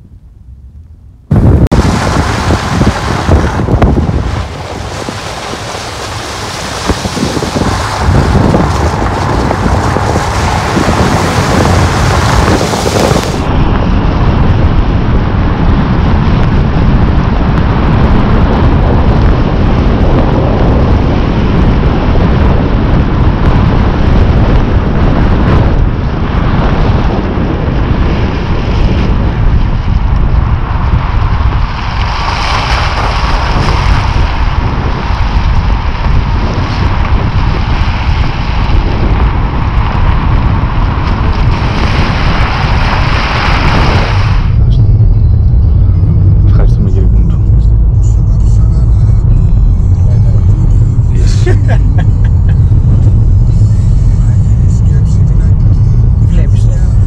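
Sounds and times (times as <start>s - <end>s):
motorcycle running: 0.0s - 57.0s
wind rushing over microphone: 0.0s - 57.0s.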